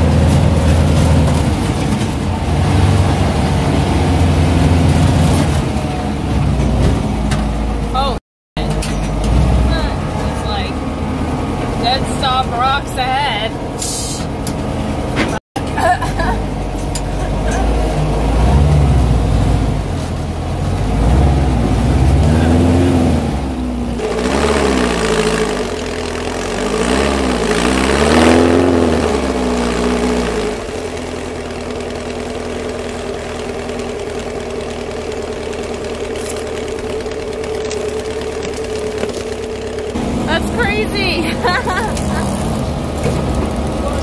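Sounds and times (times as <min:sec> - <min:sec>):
car engine revving: 0:00.0 - 0:15.2, 0:16.2 - 0:44.0.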